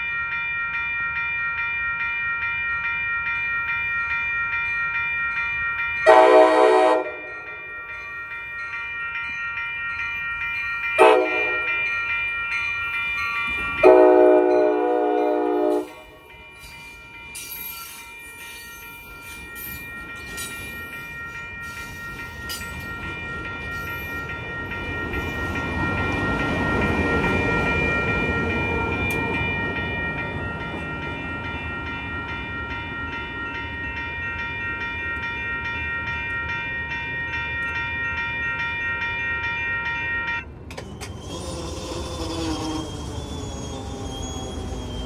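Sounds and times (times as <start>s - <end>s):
passenger train rolling past: 0.0s - 45.0s
railroad crossing bell ringing: 0.0s - 45.0s.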